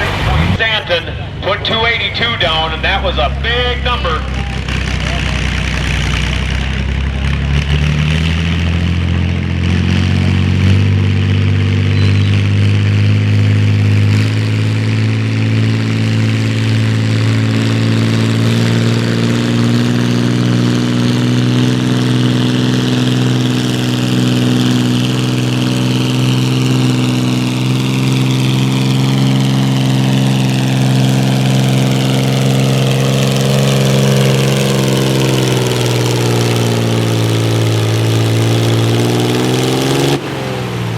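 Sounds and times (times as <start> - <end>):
tractor engine under full load: 0.0 - 40.9.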